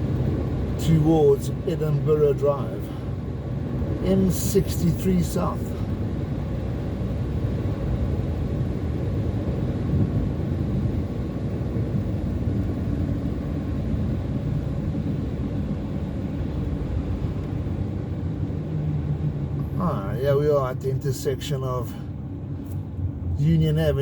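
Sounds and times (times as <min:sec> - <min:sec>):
car driving on road: 0:00.0 - 0:24.0.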